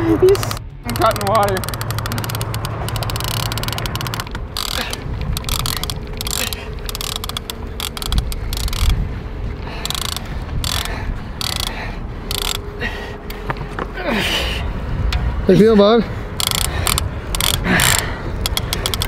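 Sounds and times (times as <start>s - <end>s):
fishing reel ratcheting and whirring: 0.2s - 13.0s, 16.3s - 19.0s.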